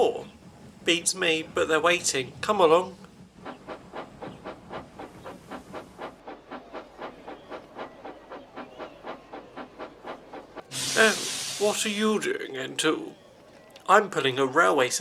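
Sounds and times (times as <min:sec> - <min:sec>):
model train engine running: 0:00.0 - 0:13.1.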